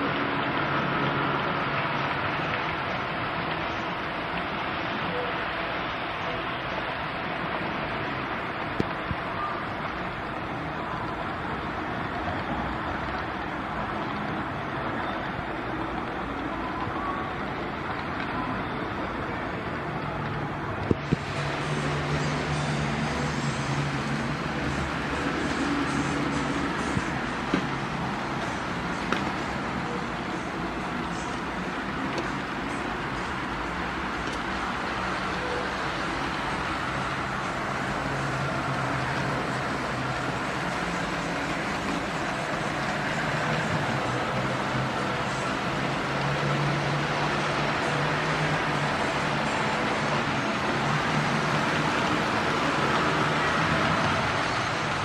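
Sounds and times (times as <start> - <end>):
model train running: 0.0 - 55.0
steady background noise: 0.0 - 55.0.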